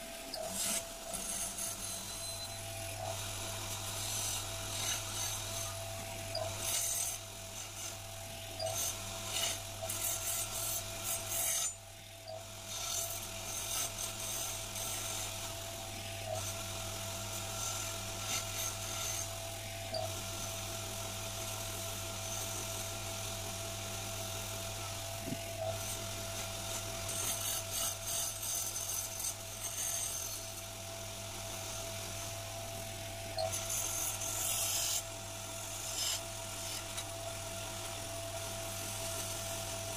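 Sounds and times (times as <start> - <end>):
chisel cutting spinning wood: 0.0 - 39.9
wood lathe humming and whining: 0.0 - 39.9.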